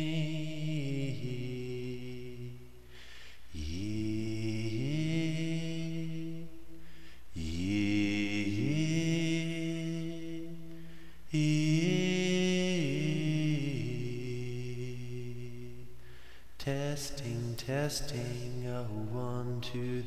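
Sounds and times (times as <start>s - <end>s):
wordless a cappella singing: 0.0s - 20.0s.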